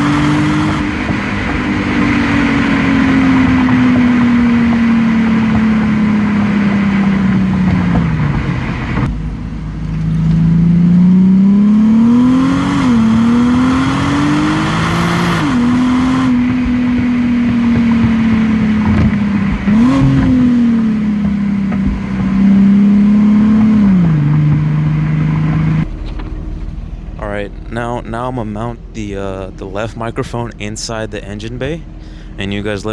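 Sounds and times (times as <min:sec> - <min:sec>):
car engine through exhaust: 0:00.0 - 0:32.9.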